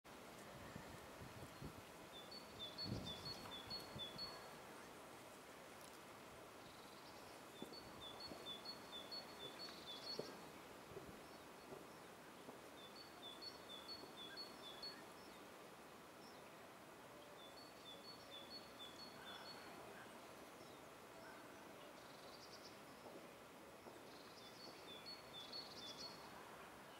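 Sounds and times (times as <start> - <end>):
faint songbird song: 0.1 - 4.9, 5.8 - 26.9
low outdoor hiss: 0.1 - 26.9.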